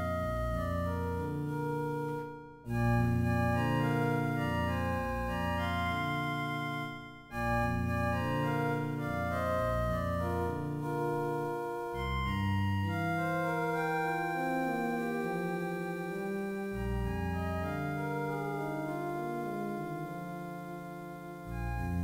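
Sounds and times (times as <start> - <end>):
digital keyboards playing chords: 0.0 - 22.0.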